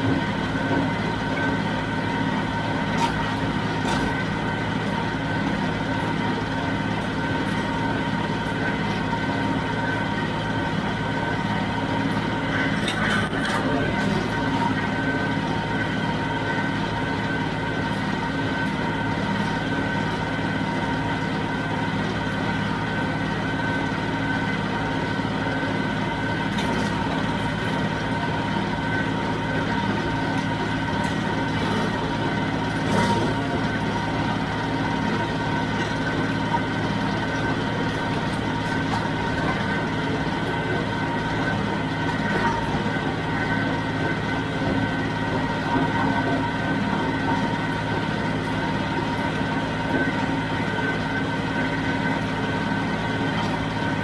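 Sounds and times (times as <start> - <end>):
diesel tractor engine running: 0.0 - 54.0
high machinery whine: 0.0 - 54.0.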